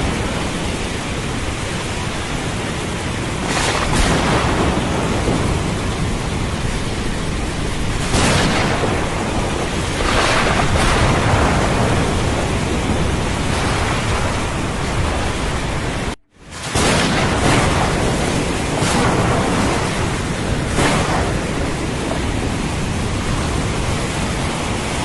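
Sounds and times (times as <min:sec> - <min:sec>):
heavy rain: 0:00.0 - 0:25.0
rolling thunder: 0:00.0 - 0:25.0.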